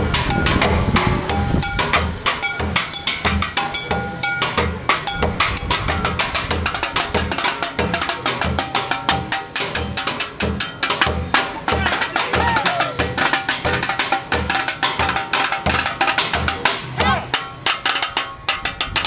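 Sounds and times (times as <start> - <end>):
fast drum kit beat: 0.0 - 19.0.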